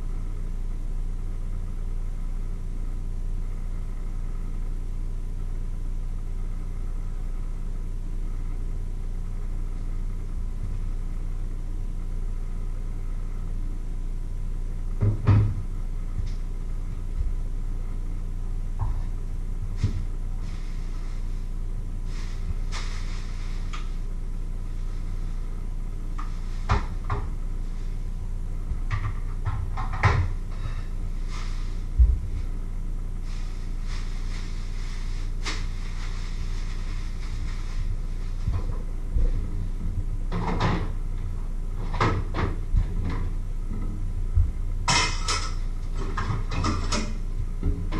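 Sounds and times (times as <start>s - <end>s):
low hum: 0.0s - 47.9s.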